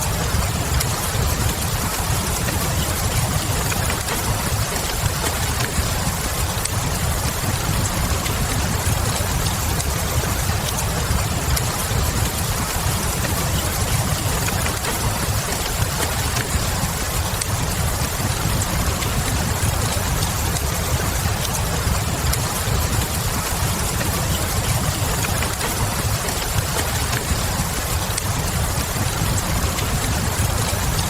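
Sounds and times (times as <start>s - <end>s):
steady rain: 0.0s - 31.0s
wood fire crackling: 0.0s - 31.0s.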